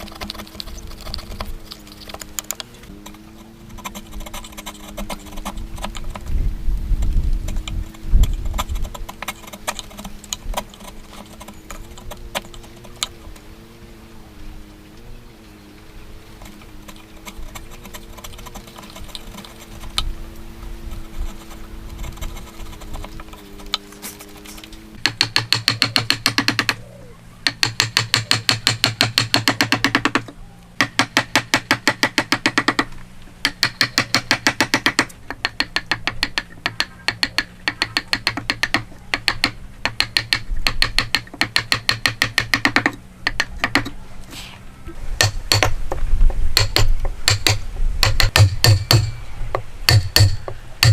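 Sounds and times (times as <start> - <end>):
fast mechanical clicking: 0.0 - 6.3, 7.0 - 13.2, 16.4 - 20.1, 20.9 - 26.8, 27.4 - 43.9, 45.2 - 49.2
steady low hum: 0.0 - 50.9.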